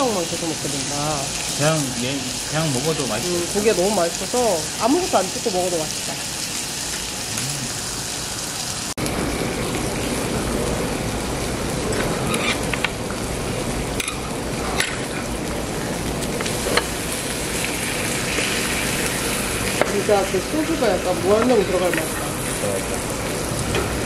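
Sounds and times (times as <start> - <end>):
pork sizzling on a grill: 0.0 - 24.0.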